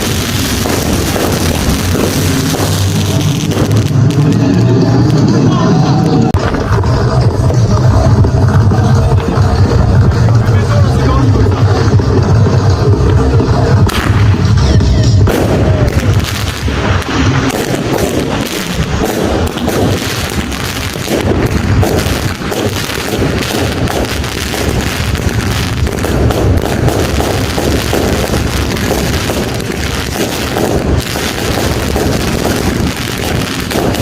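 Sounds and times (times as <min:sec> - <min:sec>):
firecrackers and fireworks banging: 0:00.0 - 0:34.0.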